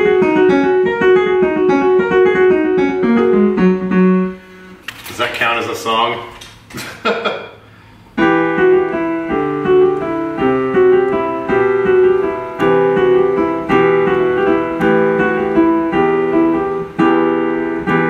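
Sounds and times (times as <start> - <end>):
piano chords: 0.0 - 6.3, 7.6 - 18.0.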